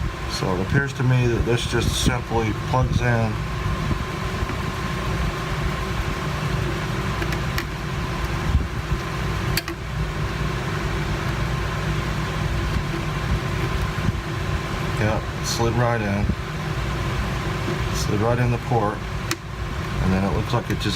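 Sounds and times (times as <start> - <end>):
fan humming: 0.0 - 20.9.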